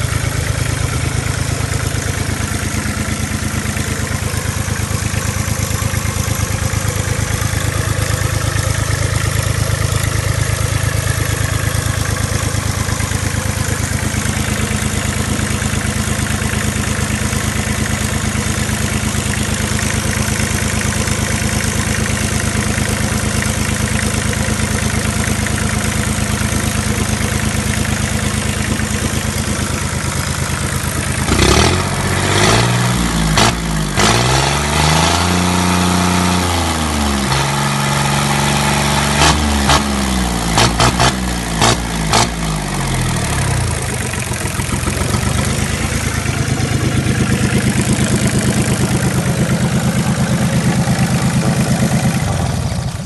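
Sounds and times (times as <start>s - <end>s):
marine diesel engine idling: 0.0s - 34.0s, 41.2s - 53.0s.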